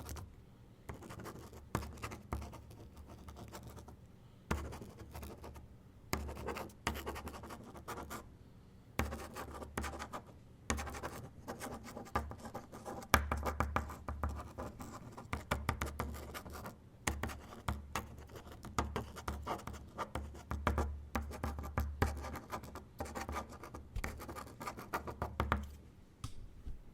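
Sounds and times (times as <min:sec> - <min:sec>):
pen scratching on paper: 0:00.9 - 0:05.6, 0:06.2 - 0:08.2, 0:09.0 - 0:25.7.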